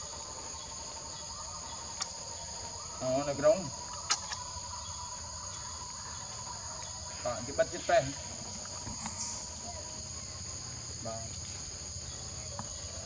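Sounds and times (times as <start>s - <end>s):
insect chorus buzzing: 0.0s - 13.0s
pitched insect calls and clicks: 0.0s - 13.0s.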